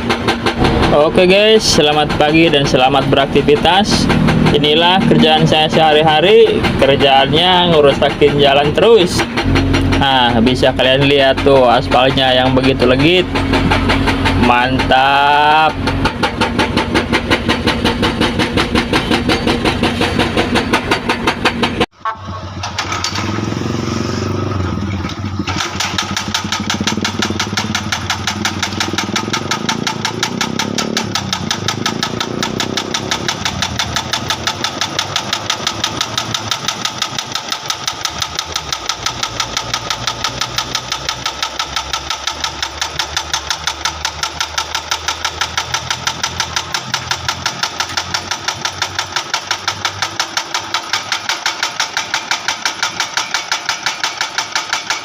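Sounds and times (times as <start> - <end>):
hydraulic breaker pounding asphalt: 0.0 - 22.0, 22.7 - 55.0
diesel engine running: 0.0 - 55.0.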